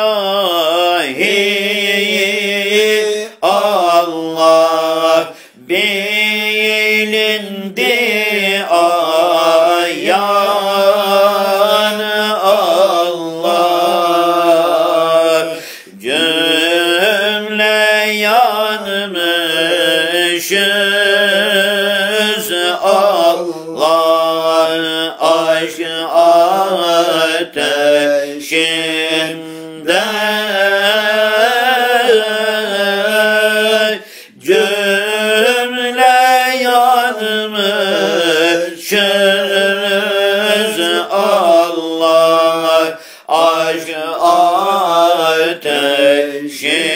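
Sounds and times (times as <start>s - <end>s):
person chanting a devotional hymn: 0.0s - 46.9s.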